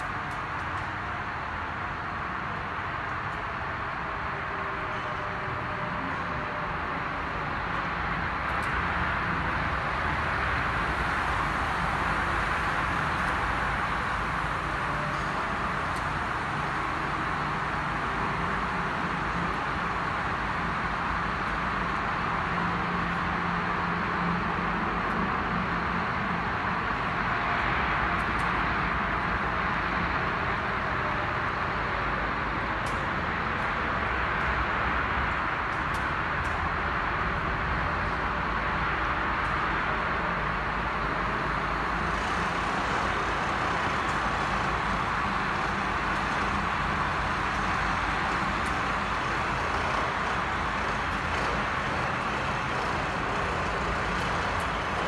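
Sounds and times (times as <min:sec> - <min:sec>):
ice resurfacing machines droning: 0:00.0 - 0:55.0.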